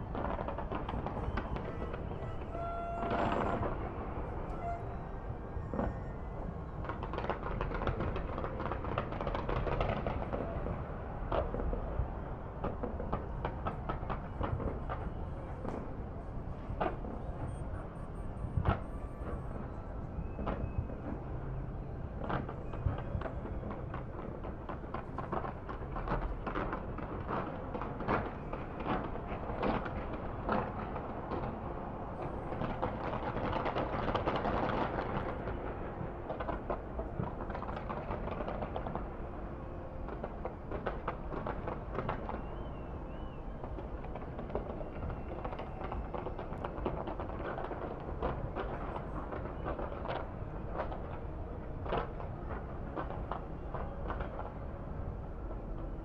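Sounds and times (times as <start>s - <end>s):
distant crowd noise: 0.0s - 56.0s.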